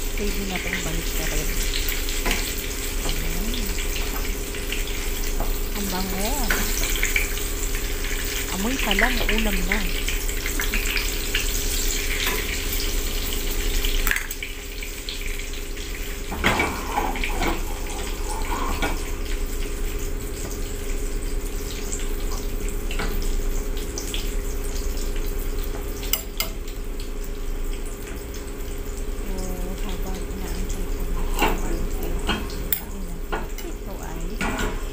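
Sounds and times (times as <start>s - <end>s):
oil sizzling in frying pan: 0.0s - 34.9s.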